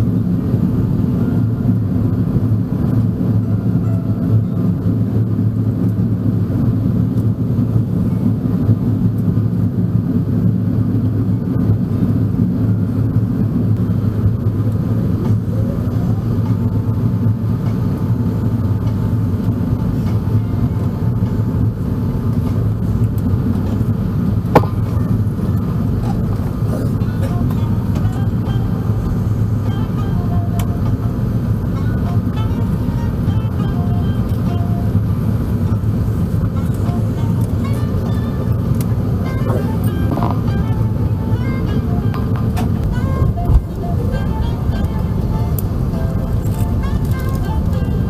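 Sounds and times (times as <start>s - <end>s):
aircraft cabin rumble: 0.0s - 48.0s.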